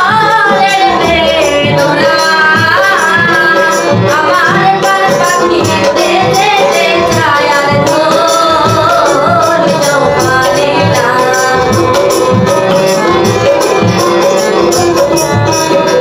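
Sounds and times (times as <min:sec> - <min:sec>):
woman singing: 0:00.0 - 0:15.1
instrumental music with percussion beat: 0:00.0 - 0:16.0.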